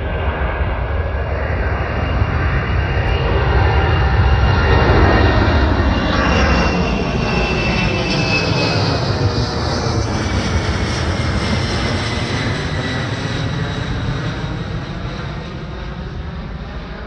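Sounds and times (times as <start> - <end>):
jet aircraft rumble and whine: 0.0 - 17.0.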